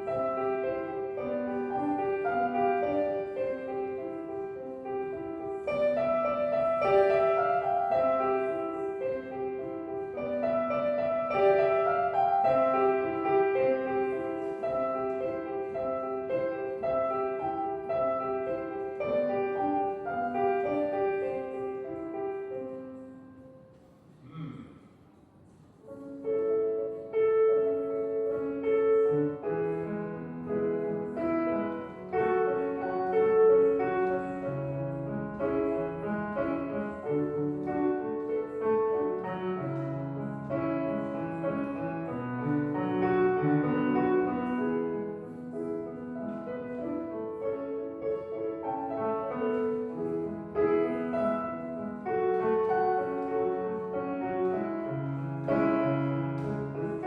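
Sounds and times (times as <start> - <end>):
piano melody over chords: 0.0 - 23.8, 25.9 - 57.0.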